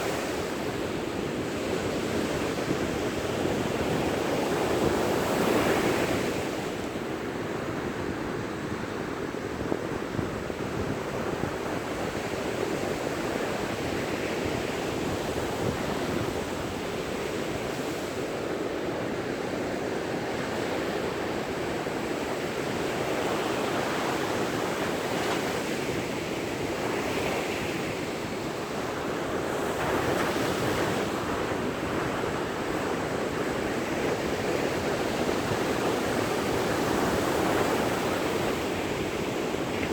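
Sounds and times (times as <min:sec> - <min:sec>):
ocean surf breaking on beach: 0:00.0 - 0:39.9
wind noise on microphone: 0:00.0 - 0:39.9.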